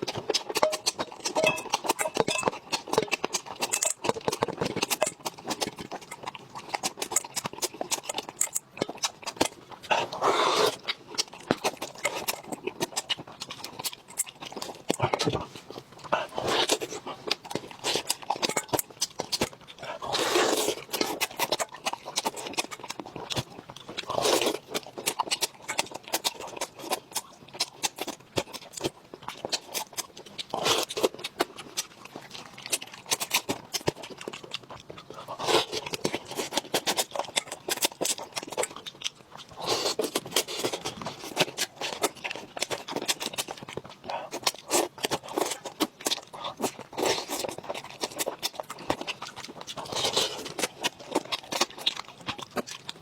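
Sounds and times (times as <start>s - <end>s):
chewing crunching: 0.0s - 53.0s.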